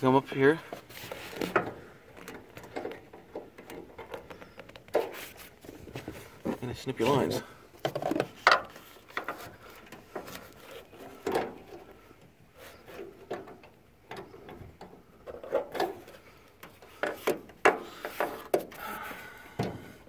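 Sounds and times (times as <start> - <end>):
rustling handling noise: 0.0 - 19.3.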